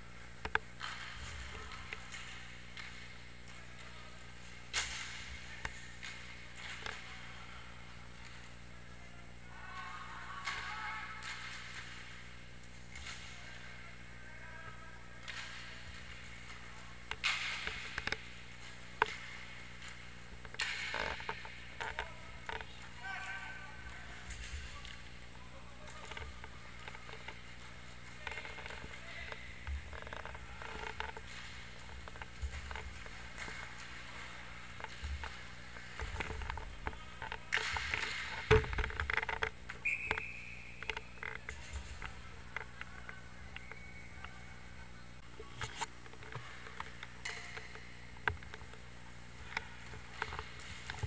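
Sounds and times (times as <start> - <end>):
sharp clacks of sticks and puck: 0.4 - 7.5, 10.4 - 13.9, 15.2 - 25.2, 25.8 - 44.4, 45.5 - 48.8, 49.4 - 51.0.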